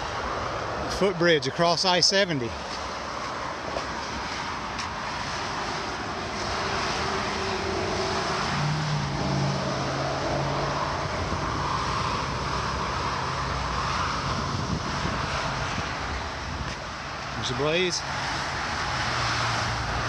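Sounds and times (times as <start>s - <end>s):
highway traffic rushing: 0.0s - 20.0s.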